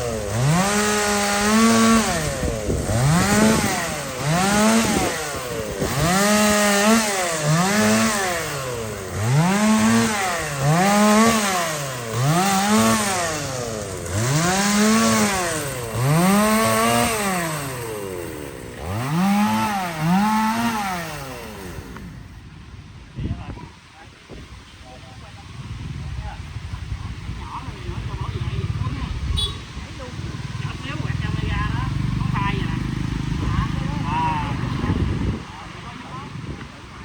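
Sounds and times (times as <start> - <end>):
chainsaw revving: 0.0 - 22.4, 27.5 - 36.7.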